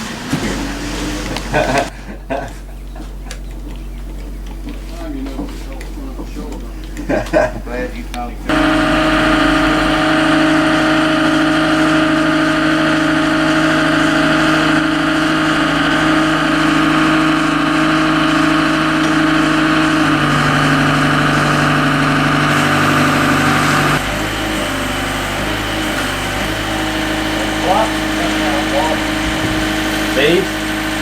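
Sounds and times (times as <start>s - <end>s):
engine running with constant hum: 0.0s - 31.0s.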